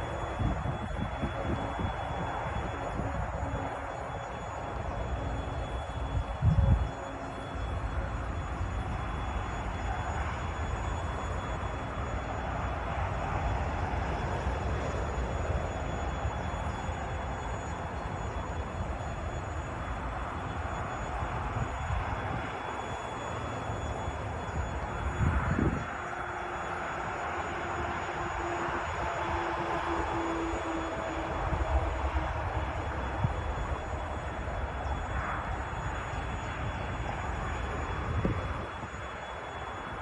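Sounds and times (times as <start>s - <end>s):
steady hum: 0.0s - 40.0s
train rolling rumble: 0.0s - 40.0s.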